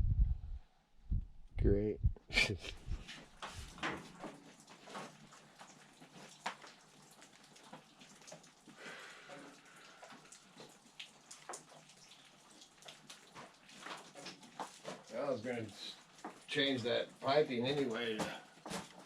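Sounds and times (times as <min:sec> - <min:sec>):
water dripping and pattering: 0:02.4 - 0:19.0.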